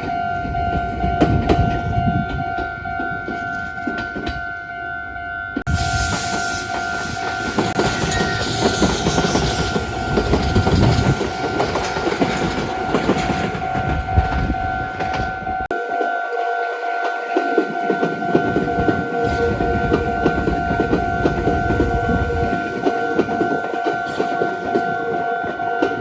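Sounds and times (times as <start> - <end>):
electric train rumbling past: 0.0 - 26.0
level crossing warning bell ringing: 0.0 - 26.0.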